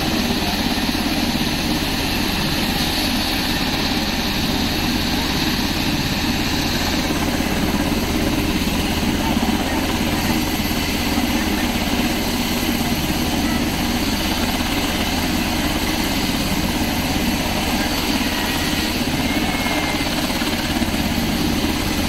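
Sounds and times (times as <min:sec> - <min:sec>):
helicopter rotor beat: 0:00.0 - 0:22.0
turbine engines running: 0:00.0 - 0:22.0.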